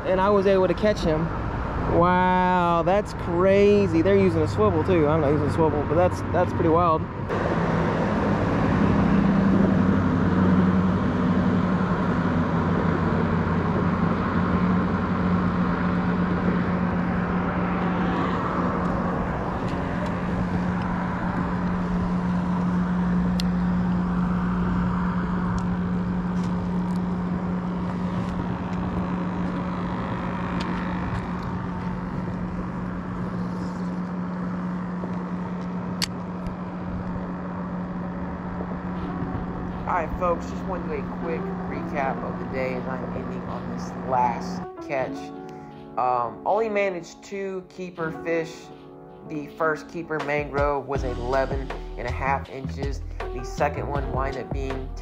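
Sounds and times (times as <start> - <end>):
engine drone: 0.0 - 46.9, 48.1 - 55.0.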